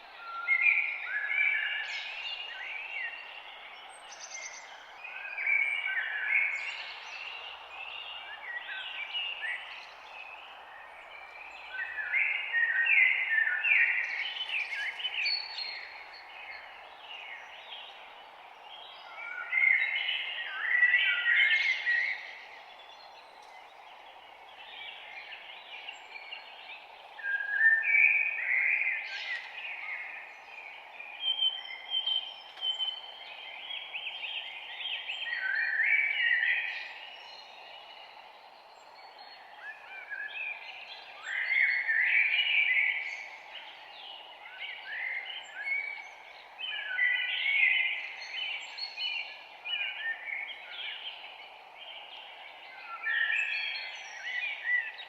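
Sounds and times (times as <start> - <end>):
songbirds chirping and warbling: 0.0 - 55.0.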